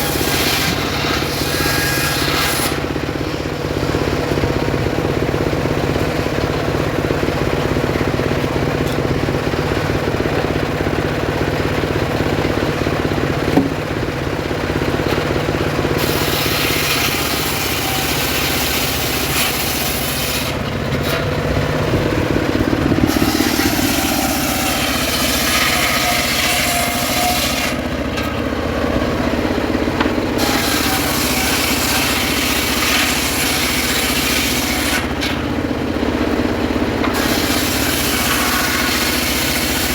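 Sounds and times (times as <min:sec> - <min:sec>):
circular saw cutting wood: 0:00.0 - 0:39.9
engine running: 0:00.0 - 0:39.9.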